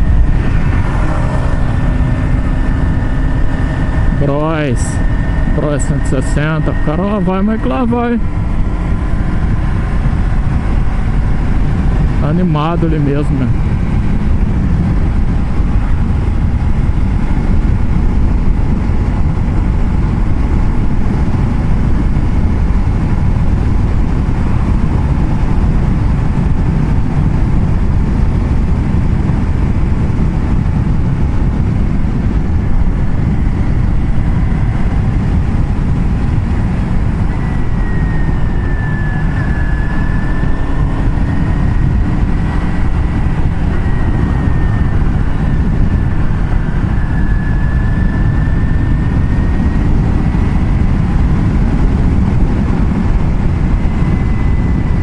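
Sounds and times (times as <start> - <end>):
faint high whine: 0.0 - 55.0
motorcycle engine running: 0.0 - 55.0
wind and road noise: 0.0 - 55.0.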